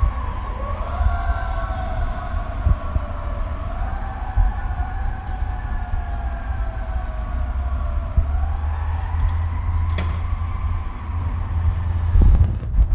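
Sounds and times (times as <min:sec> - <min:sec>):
fire engine siren wailing: 0:00.0 - 0:12.6
truck rumble: 0:00.0 - 0:12.9.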